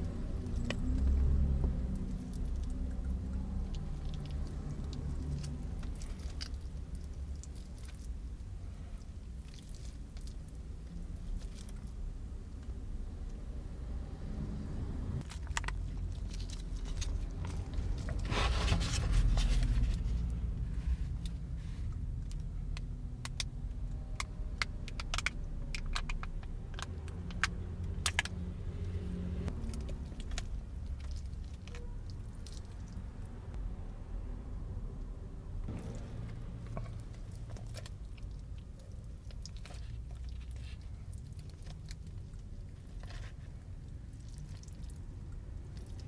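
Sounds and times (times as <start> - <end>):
steady low rumble: 0.0 - 46.0.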